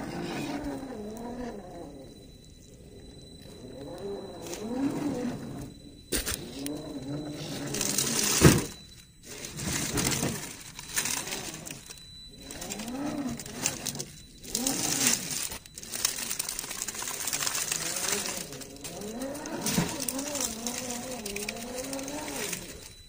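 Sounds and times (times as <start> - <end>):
electric motor and gearbox whining: 0.0 - 23.0
dry leaves crunching under tyres: 3.4 - 23.0.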